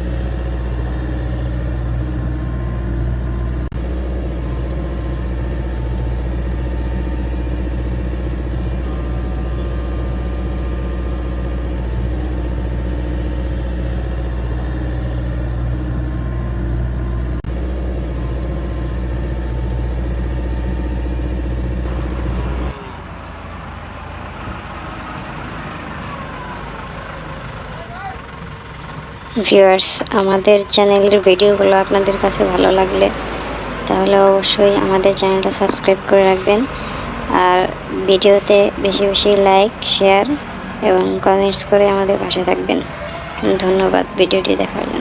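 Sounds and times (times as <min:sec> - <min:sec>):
heavy engine humming: 0:00.0 - 0:45.0.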